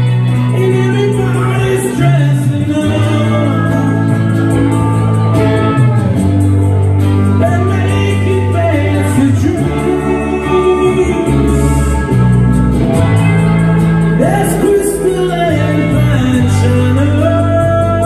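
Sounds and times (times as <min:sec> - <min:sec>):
man singing: 0:00.0 - 0:05.4, 0:07.2 - 0:12.7, 0:14.0 - 0:18.0
acoustic guitar strumming: 0:00.0 - 0:18.0
bass line: 0:00.0 - 0:18.0
electric guitar: 0:00.0 - 0:18.0.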